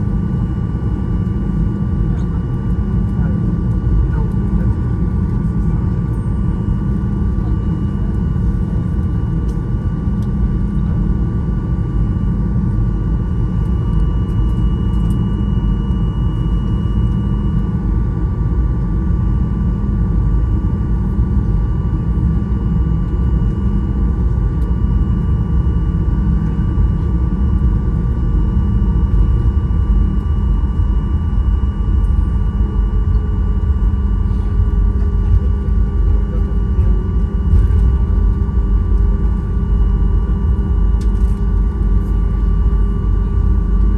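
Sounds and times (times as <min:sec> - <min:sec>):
airliner low rumble: 0:00.0 - 0:43.9.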